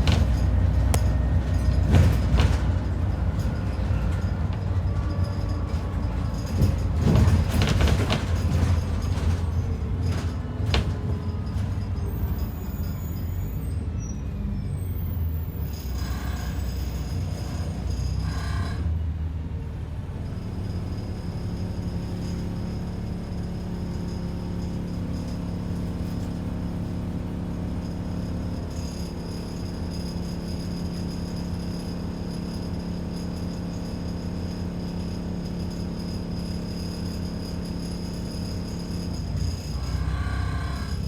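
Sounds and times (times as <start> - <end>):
bus diesel engine idling: 0.0 - 41.0.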